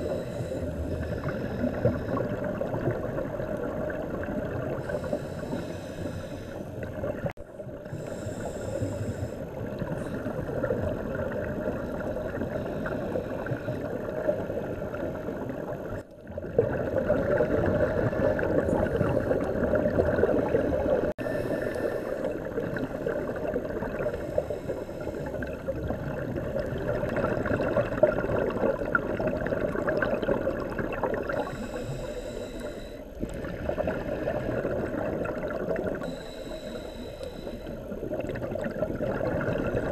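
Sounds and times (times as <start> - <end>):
muffled underwater rush: 0.0 - 39.9
regulator bubbles gurgling: 0.0 - 39.9.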